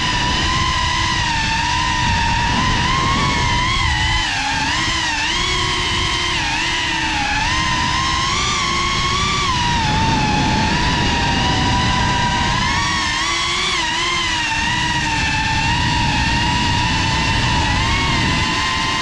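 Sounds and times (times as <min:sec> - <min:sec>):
drone motors whining: 0:00.0 - 0:19.0
wind noise: 0:00.0 - 0:19.0.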